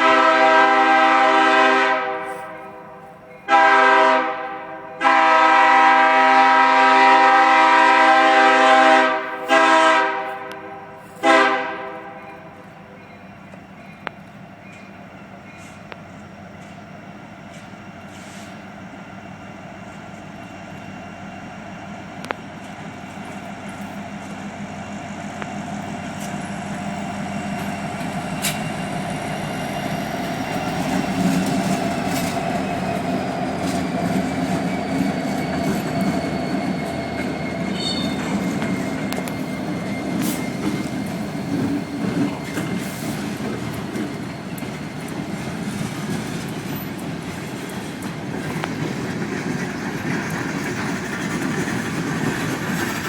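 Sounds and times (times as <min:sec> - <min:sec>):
diesel locomotive rumble: 0:00.0 - 0:53.0
train rolling by: 0:00.0 - 0:53.0.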